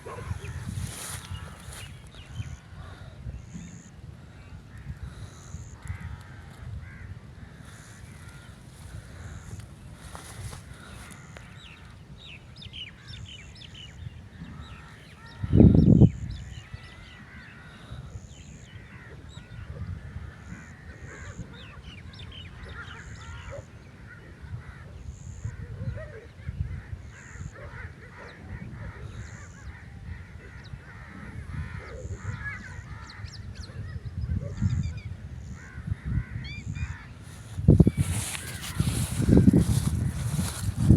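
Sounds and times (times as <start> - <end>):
birds chirping and calling: 0.0 - 3.9, 4.5 - 40.9.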